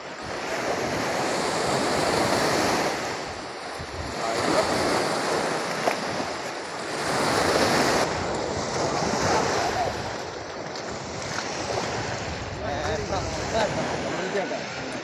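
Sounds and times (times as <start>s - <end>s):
small waves washing up a beach: 0.0s - 15.0s
wind buffeting microphone: 0.0s - 15.0s.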